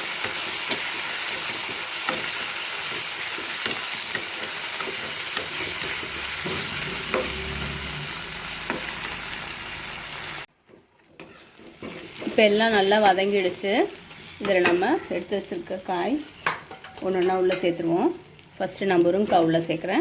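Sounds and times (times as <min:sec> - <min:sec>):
vegetables sizzling in a pan: 0:00.0 - 0:20.0
spoon stirring and knocking pan: 0:00.1 - 0:09.3, 0:10.5 - 0:17.9.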